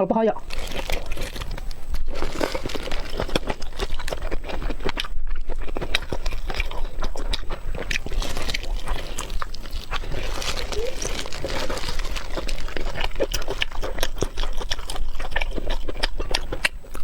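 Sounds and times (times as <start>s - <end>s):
person chewing food: 0.4s - 17.0s.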